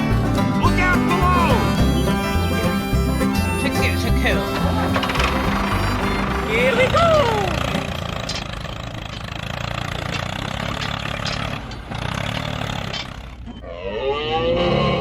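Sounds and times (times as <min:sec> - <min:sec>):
engine low rumble: 0:00.0 - 0:13.7.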